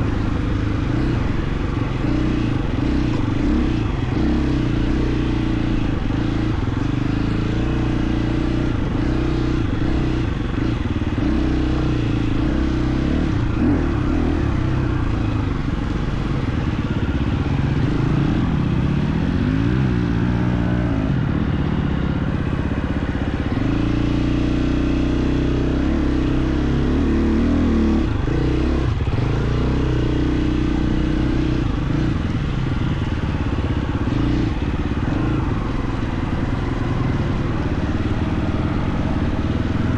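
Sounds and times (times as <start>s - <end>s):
dirt bike engine revving: 0.0s - 21.0s, 23.4s - 39.9s.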